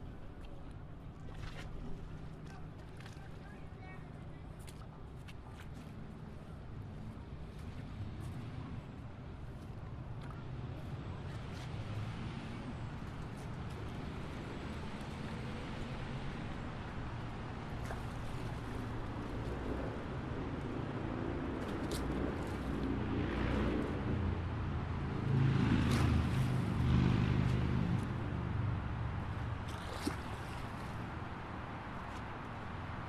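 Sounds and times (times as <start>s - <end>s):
highway traffic rumble: 0.0s - 33.0s.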